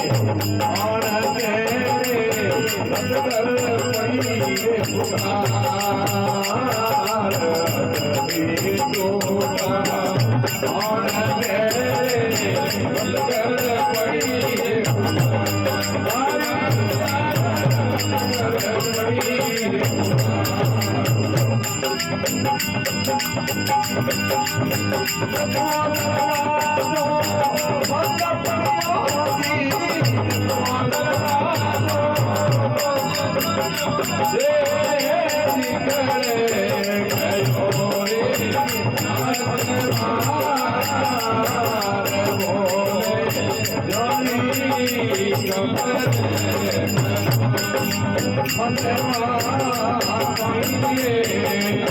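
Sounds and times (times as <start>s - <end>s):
jingling rattling percussion: 0.0s - 51.9s.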